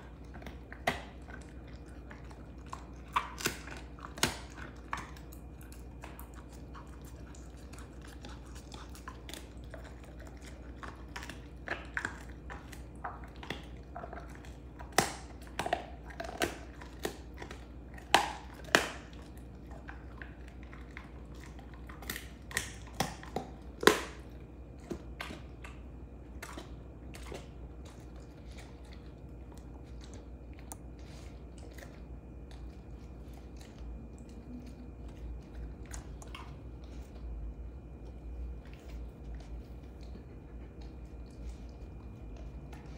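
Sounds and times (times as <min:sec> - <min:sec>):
dog gnawing and crunching bone: 0:00.0 - 0:42.9.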